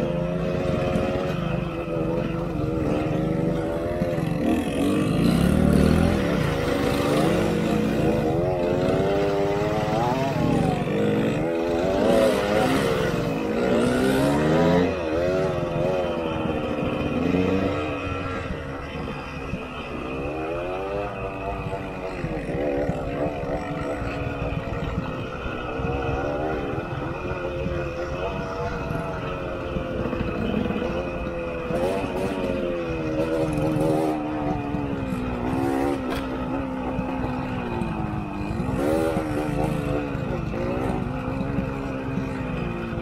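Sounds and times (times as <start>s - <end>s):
two-stroke motorcycle engine revving: 0.0s - 43.0s.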